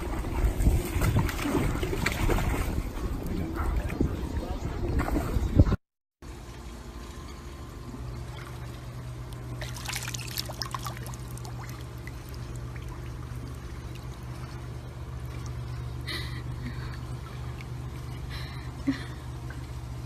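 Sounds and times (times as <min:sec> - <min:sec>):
water splashing and trickling: 0:00.0 - 0:16.1
steady low hum: 0:00.0 - 0:20.0.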